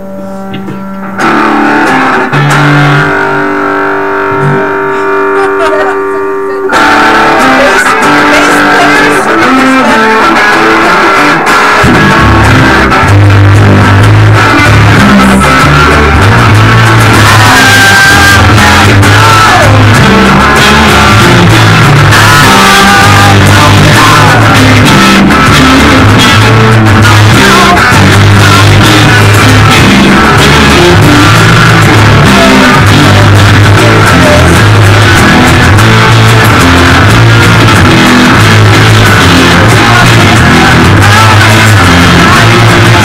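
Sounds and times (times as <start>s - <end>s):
acoustic guitar: 0.0s - 43.0s
electric guitars: 0.0s - 43.0s
drums: 6.8s - 43.0s.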